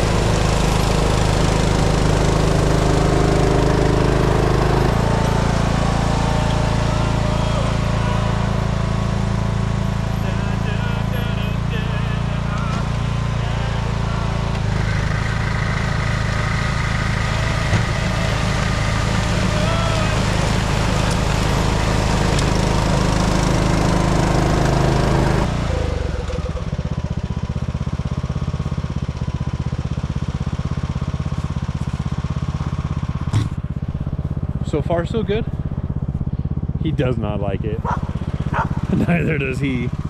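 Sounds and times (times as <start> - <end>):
lawn tractor engine running: 0.0 - 40.0
snow blower working: 0.0 - 40.0.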